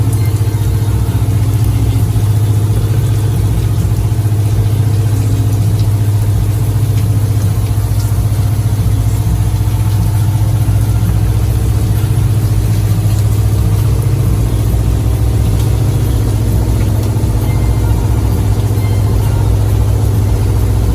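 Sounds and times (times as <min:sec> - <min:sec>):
motor boat engine running: 0:00.0 - 0:20.9.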